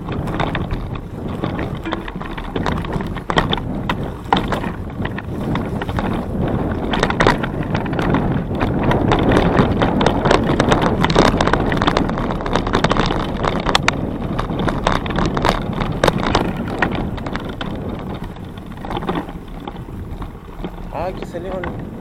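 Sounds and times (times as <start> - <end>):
knocks and rattles: 0.0 - 21.9
wind buffeting microphone: 0.0 - 22.0.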